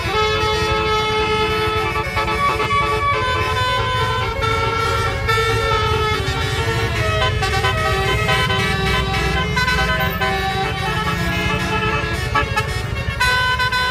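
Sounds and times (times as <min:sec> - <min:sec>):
bus engine rumble: 0:00.0 - 0:13.9
musical bus air horn: 0:00.0 - 0:13.9.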